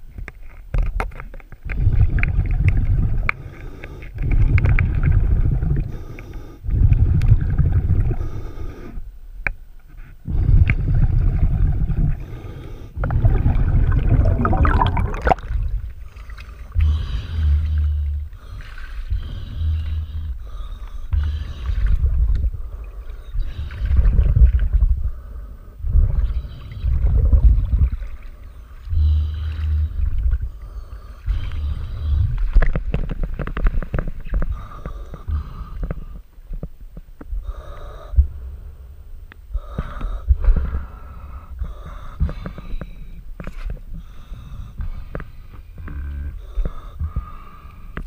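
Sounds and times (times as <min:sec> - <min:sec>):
diver breathing heavily: 0:01.6 - 0:09.1, 0:10.2 - 0:36.4, 0:37.3 - 0:48.0.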